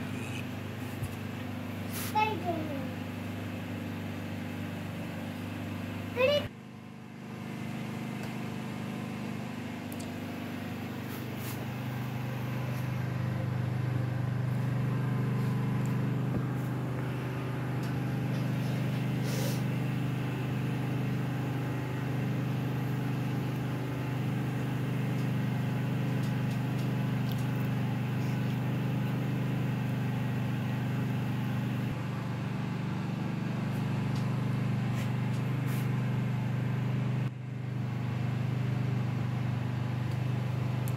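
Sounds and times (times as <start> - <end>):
motor humming: 0.0 - 40.9.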